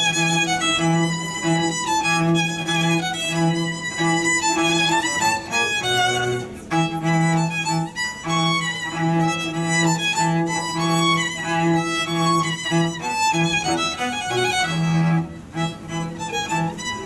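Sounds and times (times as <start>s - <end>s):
cello bowing low note: 0.0s - 17.0s
violin melody: 0.0s - 17.0s.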